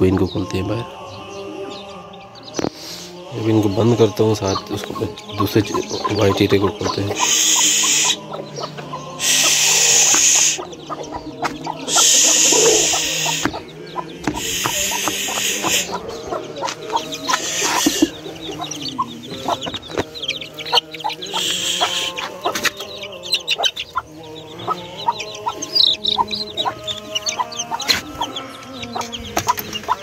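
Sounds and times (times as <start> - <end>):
chicks peeping: 0.0 - 30.0
hen clucking: 0.0 - 30.0.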